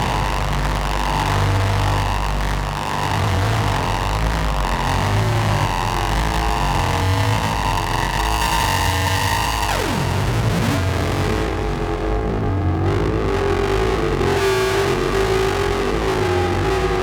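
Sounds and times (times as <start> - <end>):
dense engine-like synth drone: 0.0 - 17.0
pulsing low throb: 0.0 - 17.0.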